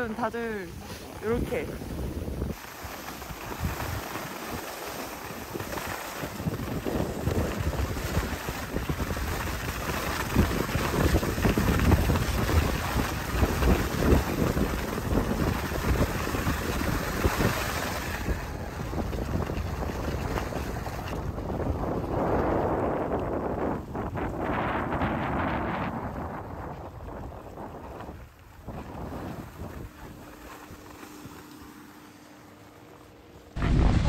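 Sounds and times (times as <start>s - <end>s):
wind rushing over microphone: 0.0s - 31.4s.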